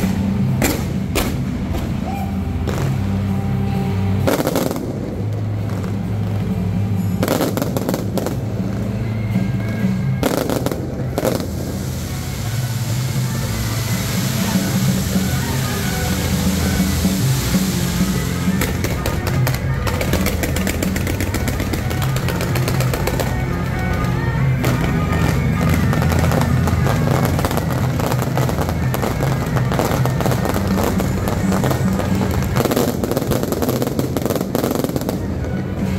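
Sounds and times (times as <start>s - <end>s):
background music: 0.0s - 35.9s
fireworks crackling: 0.0s - 35.9s.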